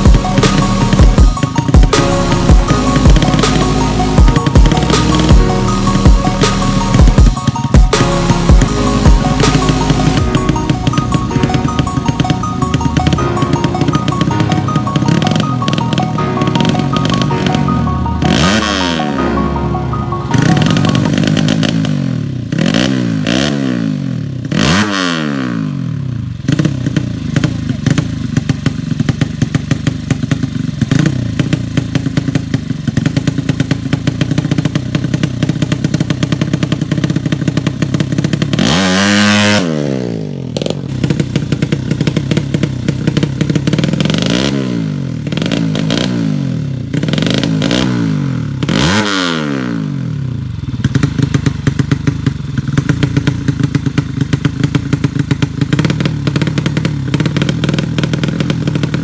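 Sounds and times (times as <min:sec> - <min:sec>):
motorcycle engine idling and revving: 0:00.0 - 0:19.6, 0:20.4 - 0:59.0.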